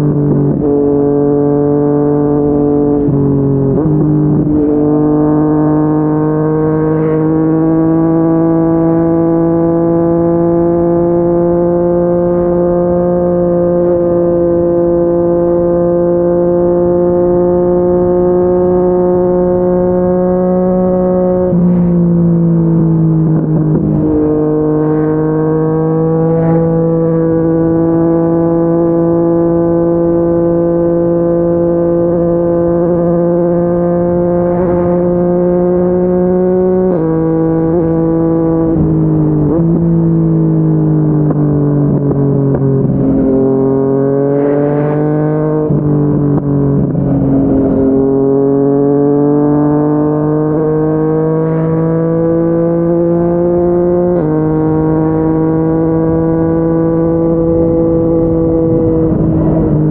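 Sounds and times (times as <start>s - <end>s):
motorcycle engine at highway speed: 0.0s - 59.9s.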